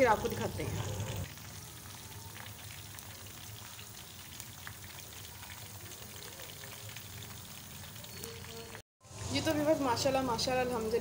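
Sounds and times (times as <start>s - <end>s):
food sizzling in hot fat: 0.0s - 11.0s.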